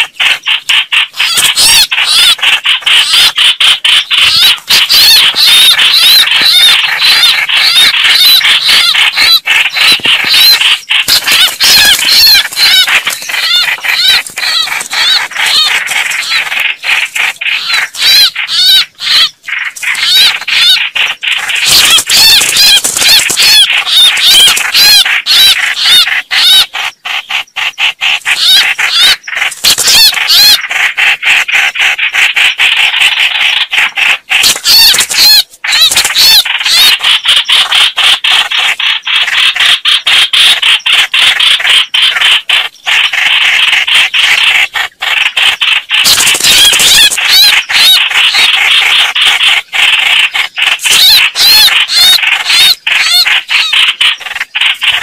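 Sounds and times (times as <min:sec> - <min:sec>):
birds calling rapidly: 0:00.0 - 0:55.0.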